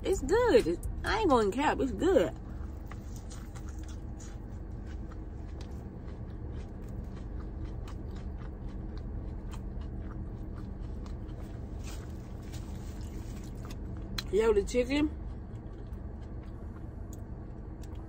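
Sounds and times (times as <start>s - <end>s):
steady low hum: 0.0s - 18.0s
chewing crispy fried chicken: 2.3s - 18.0s.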